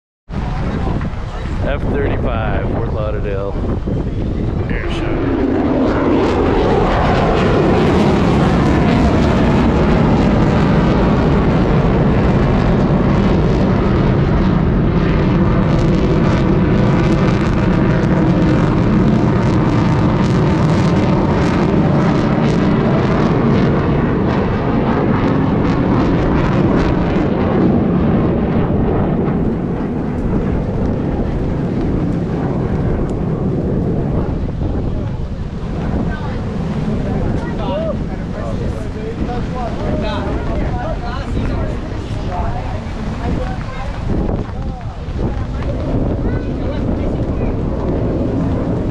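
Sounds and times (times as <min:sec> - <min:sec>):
jet engine roaring: 0:00.3 - 0:48.9.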